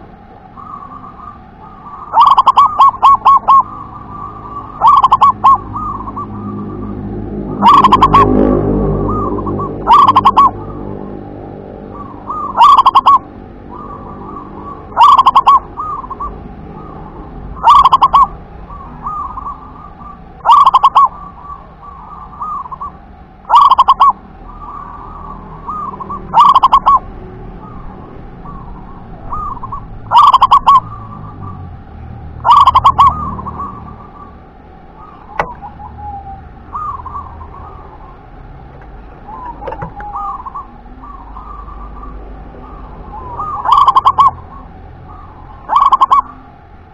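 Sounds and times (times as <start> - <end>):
dove cooing: 0.0 - 11.2, 11.9 - 31.7, 32.4 - 46.6.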